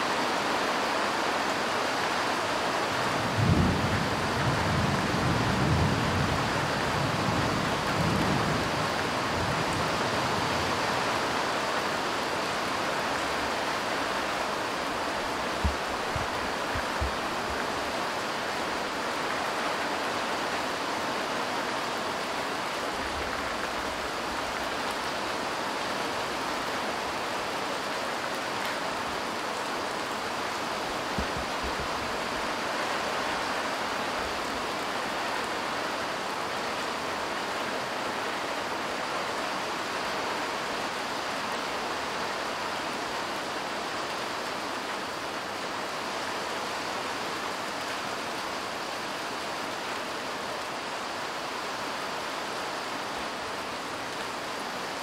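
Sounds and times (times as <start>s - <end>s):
light rain on cars and ground: 0.0s - 55.0s.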